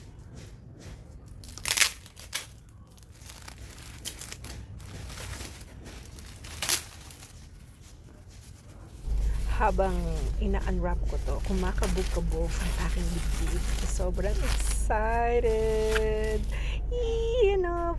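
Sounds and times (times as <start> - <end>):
packing wrap crinkling and tearing: 1.2 - 17.4.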